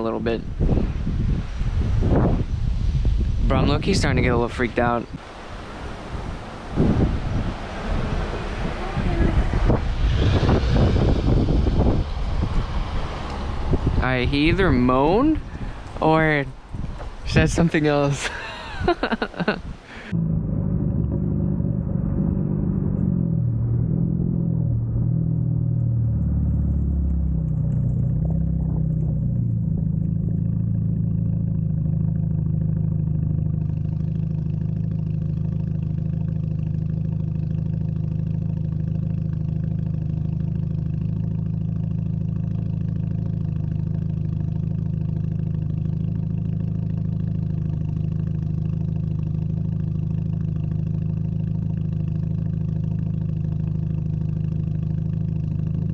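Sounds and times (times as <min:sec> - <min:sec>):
car exhaust droning: 0:00.0 - 0:55.9.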